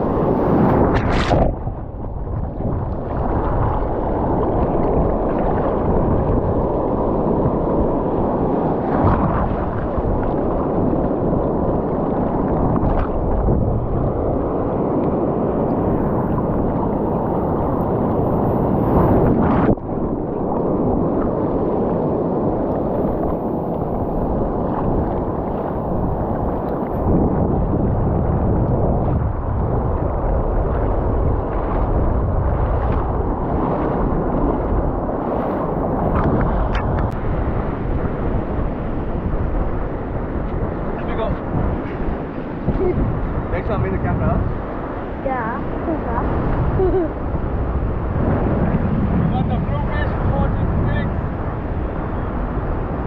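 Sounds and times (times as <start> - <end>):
sea surf breaking: 0.0 - 53.0
wind buffeting microphone: 0.0 - 53.0.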